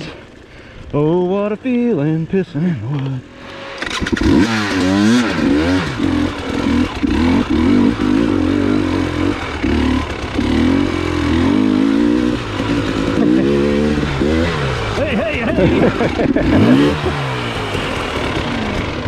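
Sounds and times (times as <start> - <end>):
dirt bike engine revving: 3.0 - 19.0.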